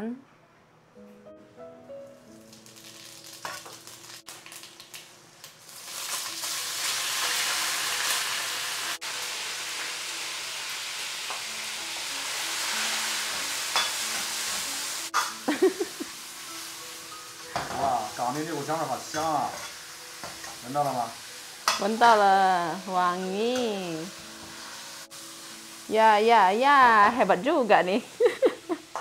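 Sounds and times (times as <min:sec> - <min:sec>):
meat sizzling in hot oil: 0:02.3 - 0:29.0.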